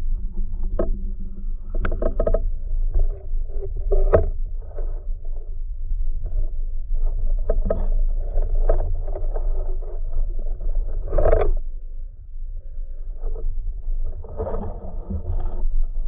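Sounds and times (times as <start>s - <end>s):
muffled underwater rumble: 0.0s - 16.0s.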